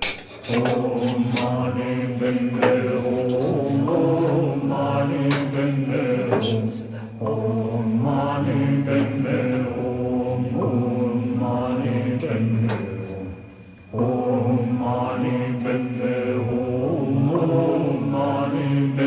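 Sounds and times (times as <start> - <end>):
chant-like vocal music: 0.0 - 19.0.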